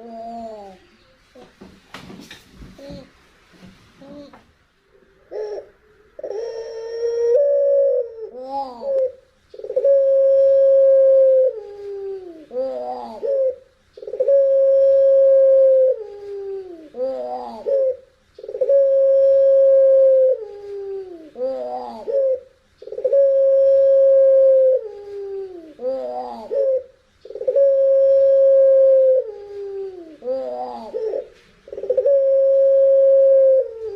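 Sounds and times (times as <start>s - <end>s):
dove cooing: 0.0s - 0.8s, 5.2s - 33.9s.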